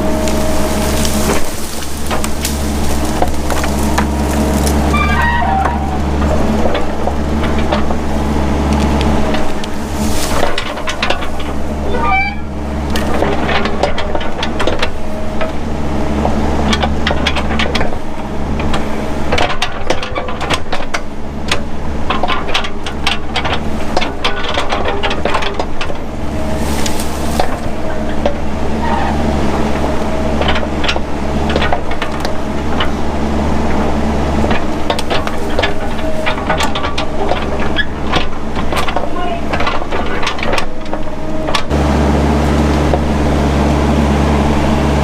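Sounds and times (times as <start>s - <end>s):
branches cracking and snapping: 0.0s - 11.8s, 16.3s - 28.7s, 29.4s - 41.7s
diesel engine under load: 0.0s - 45.0s.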